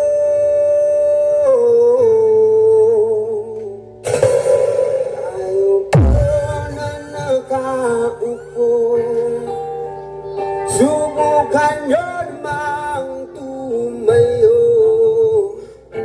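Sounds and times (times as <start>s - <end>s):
song with vocals over speakers: 3.0s - 15.9s.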